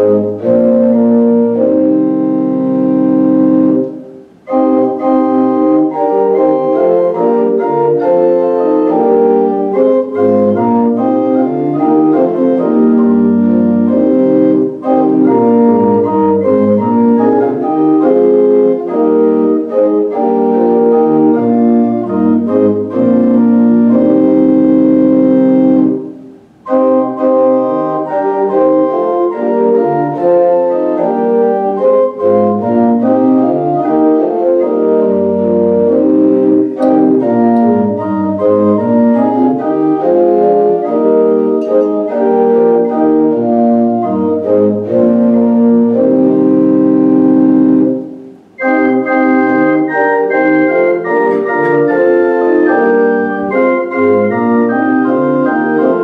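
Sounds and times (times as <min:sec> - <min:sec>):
organ playing hymn chords: 0:00.0 - 0:56.0.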